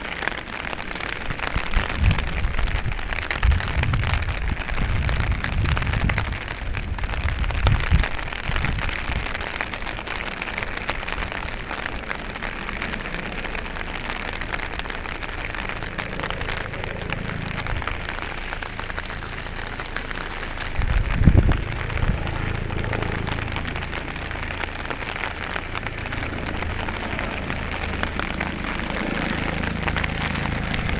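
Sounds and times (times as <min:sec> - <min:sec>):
heavy rain falling: 0:00.0 - 0:30.9
low rumbles: 0:00.0 - 0:30.9.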